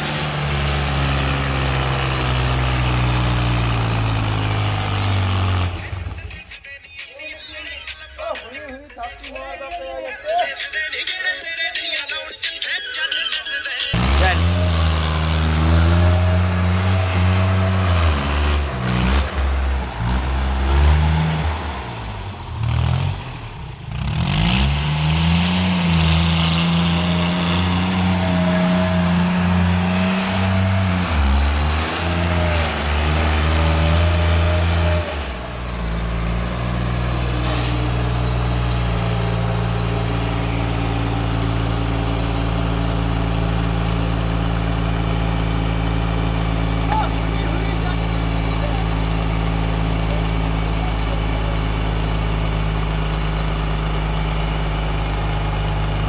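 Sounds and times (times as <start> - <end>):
tractor diesel engine revving: 0.0 - 6.7, 13.9 - 56.0.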